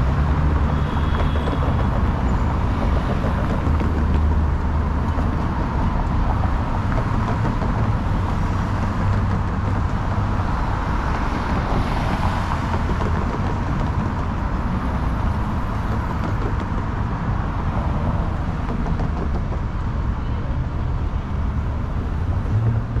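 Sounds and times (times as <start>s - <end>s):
low rumble of vehicles: 0.0s - 23.0s.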